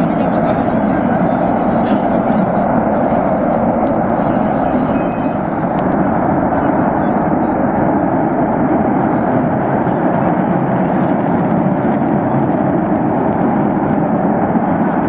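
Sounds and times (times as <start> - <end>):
gas fire roaring: 0.0 - 15.0.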